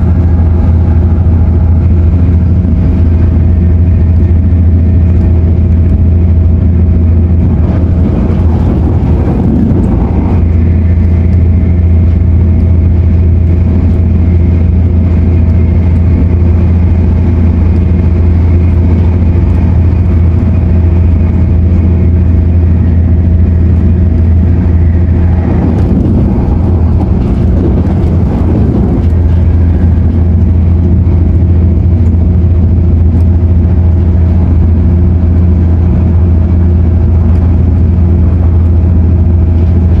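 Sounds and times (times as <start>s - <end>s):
steady hum: 0.0s - 40.0s
thin high whine: 0.0s - 40.0s
train cabin low rumble: 0.0s - 40.0s.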